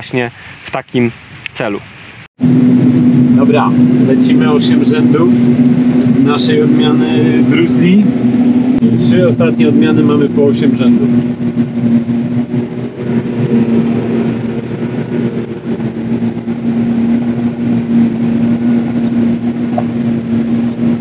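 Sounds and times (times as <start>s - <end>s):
forage harvester running: 2.4s - 21.0s.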